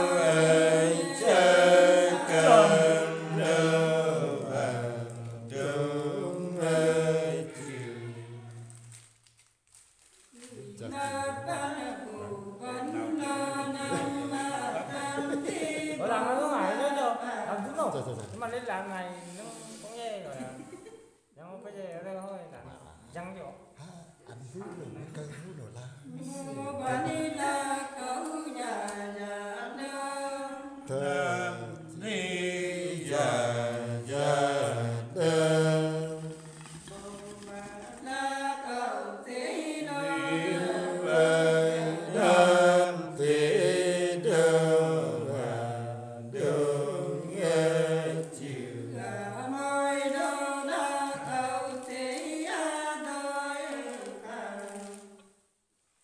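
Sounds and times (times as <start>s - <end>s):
unaccompanied folk singing: 0.0s - 9.1s, 10.4s - 21.1s, 26.0s - 55.4s.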